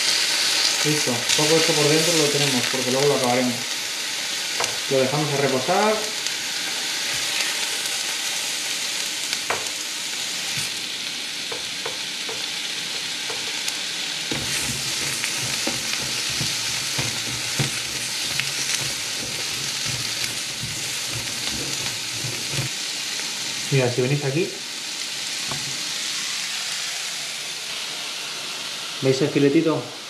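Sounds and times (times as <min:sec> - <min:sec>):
onion sizzling in frying pan: 0:00.0 - 0:30.0.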